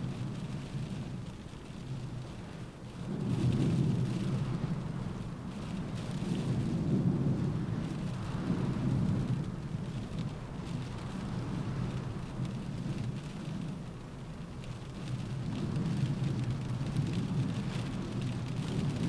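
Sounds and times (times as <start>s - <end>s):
rain pattering on a window: 0.0s - 19.0s.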